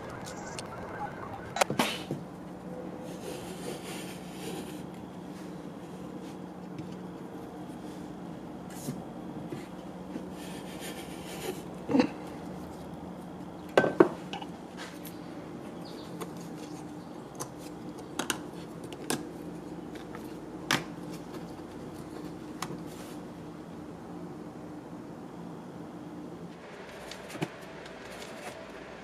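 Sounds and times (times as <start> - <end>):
steady low hum: 0.0 - 26.6.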